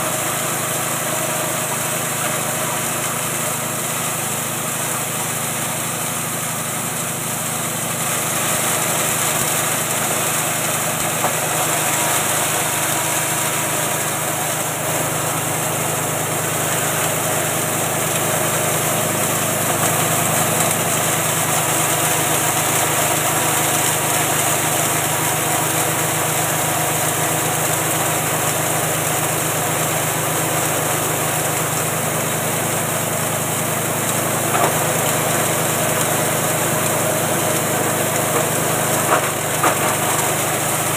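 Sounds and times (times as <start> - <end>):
grinding mill: 0.0 - 40.9
small engine running steadily: 0.0 - 40.9.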